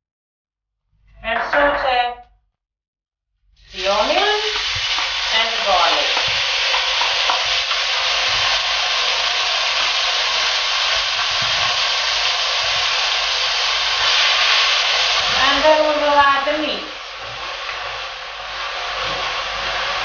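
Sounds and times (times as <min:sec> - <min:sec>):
onion sizzling in oil: 0:03.6 - 0:20.0.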